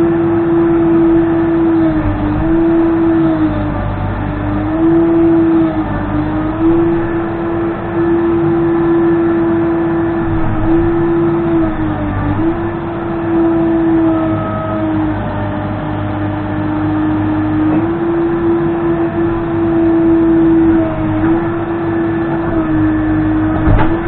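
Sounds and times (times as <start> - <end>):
backhoe diesel engine and hydraulics: 0.0 - 24.0.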